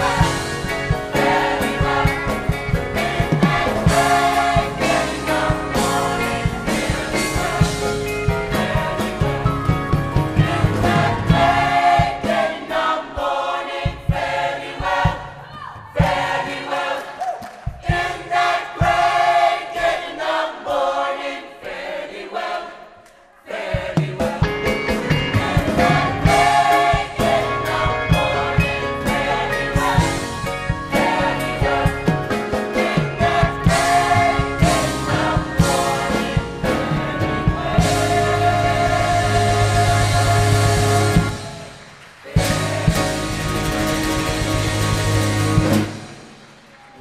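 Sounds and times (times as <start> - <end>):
worship band playing: 0.0 - 21.1, 23.5 - 47.0
gospel choir singing: 0.0 - 46.4.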